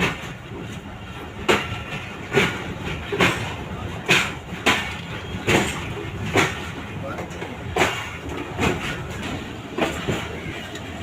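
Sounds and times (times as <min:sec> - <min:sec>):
steady train rumble: 0:00.0 - 0:11.0
train wheels clacking over rail joints: 0:00.0 - 0:11.0.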